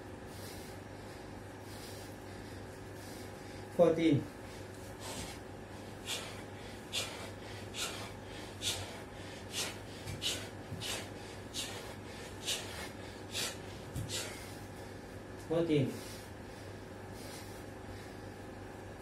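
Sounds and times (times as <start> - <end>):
man breathing hard: 0.0 - 18.6.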